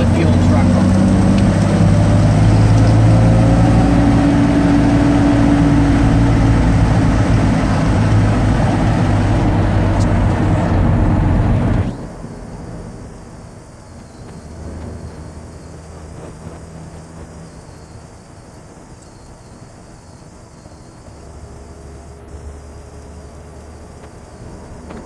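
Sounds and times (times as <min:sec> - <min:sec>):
road noise: 0:00.0 - 0:25.0
truck engine running: 0:00.0 - 0:25.0.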